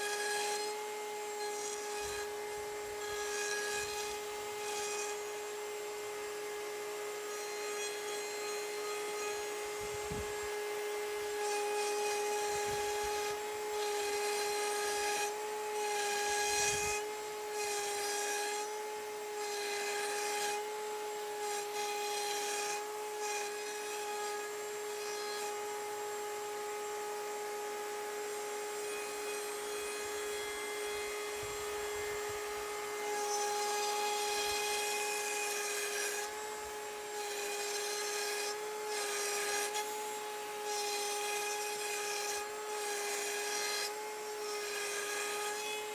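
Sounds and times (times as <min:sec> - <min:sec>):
router bit cutting wood: 0:00.0 - 0:45.9
router high whine: 0:00.0 - 0:45.9.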